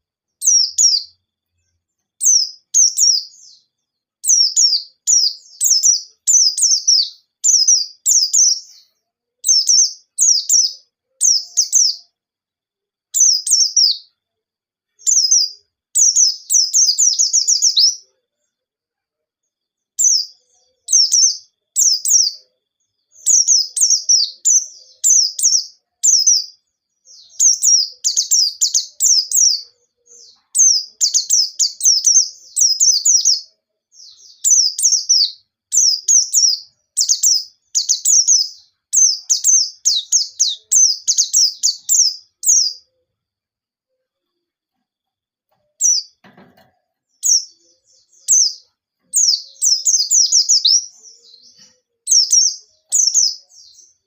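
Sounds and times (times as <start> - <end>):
bird chirping song: 0.0 - 54.0.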